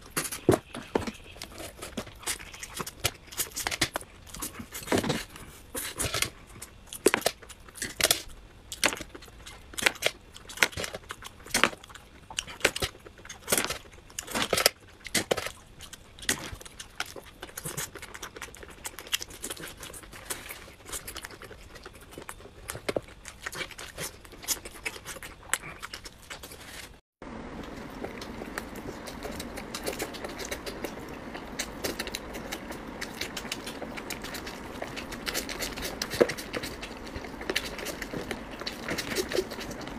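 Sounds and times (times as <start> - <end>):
wet chewing and lip smacking: 1.2 - 39.9.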